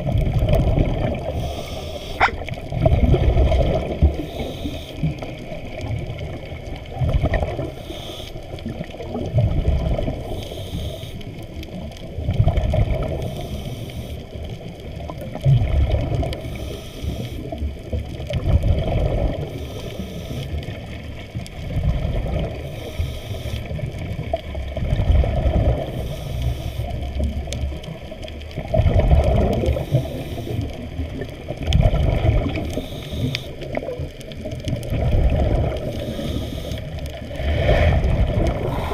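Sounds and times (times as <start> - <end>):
muffled underwater water rushing: 0.0 - 38.9.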